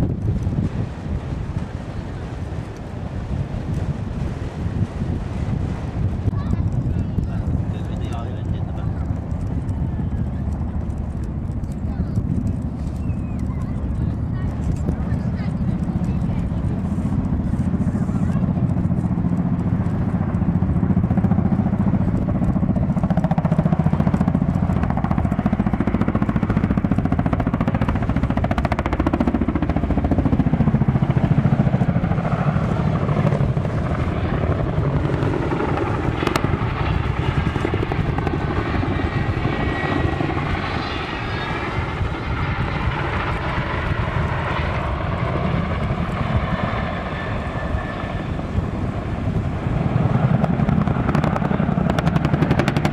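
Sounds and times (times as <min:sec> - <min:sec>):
aircraft engine rumbling: 0:00.0 - 0:52.9.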